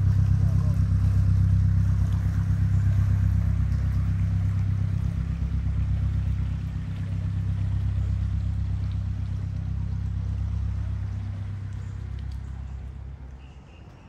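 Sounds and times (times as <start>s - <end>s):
boat diesel engine chugging: 0.0s - 14.0s.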